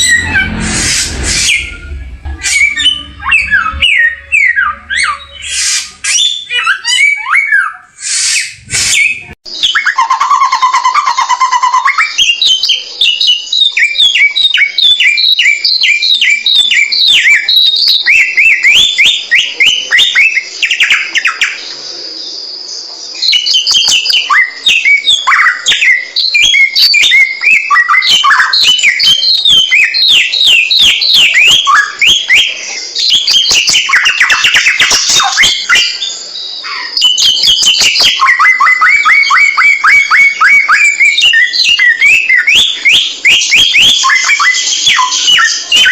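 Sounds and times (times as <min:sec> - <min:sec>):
songbird chirping: 0:00.0 - 0:45.9.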